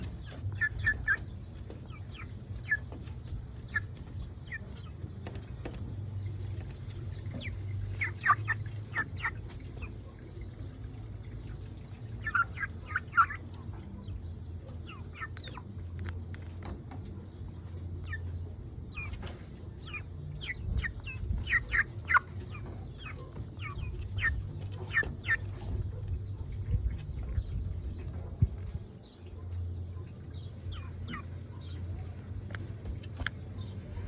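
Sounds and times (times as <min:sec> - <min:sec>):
chicks peeping and clucking: 0:00.0 - 0:34.0.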